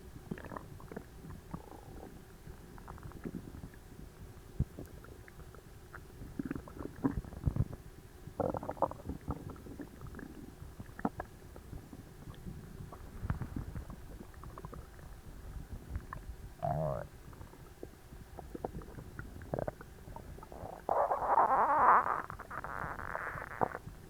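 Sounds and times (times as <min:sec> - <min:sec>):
stomach gurgling and rumbling: 0:00.0 - 0:24.0.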